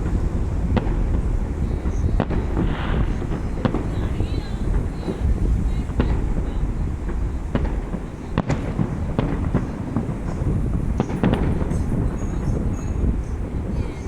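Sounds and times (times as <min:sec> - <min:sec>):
fireworks bangs: 0:00.0 - 0:14.0
steady low rumble: 0:00.0 - 0:14.0.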